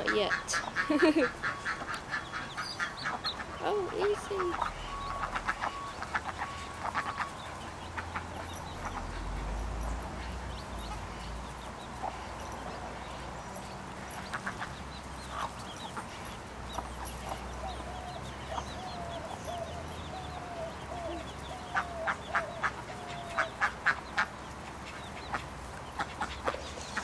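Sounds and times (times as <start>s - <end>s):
chick peeps: 0.0s - 12.9s, 14.1s - 27.0s.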